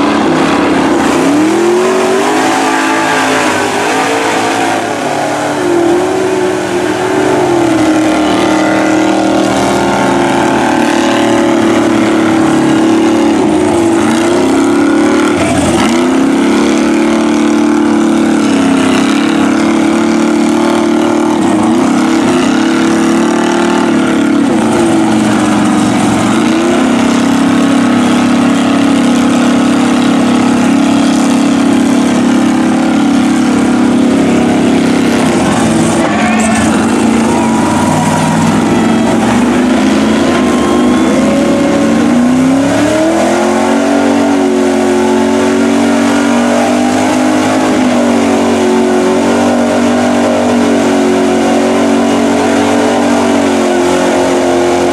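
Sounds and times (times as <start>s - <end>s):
truck engines revving: 0.0s - 54.9s.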